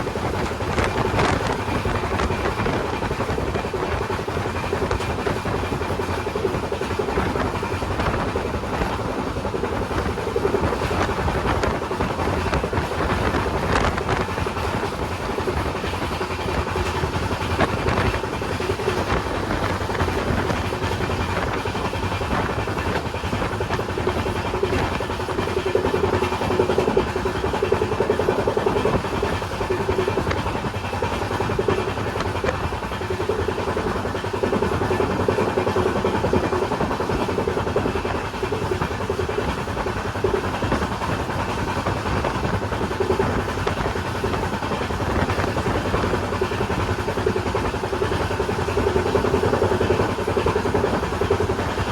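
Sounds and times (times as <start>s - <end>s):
train rumbling and rattling: 0.0s - 51.9s.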